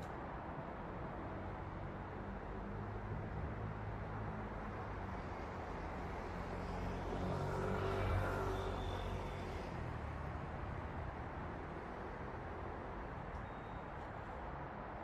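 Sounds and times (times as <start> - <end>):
city road traffic hum: 0.0 - 15.0.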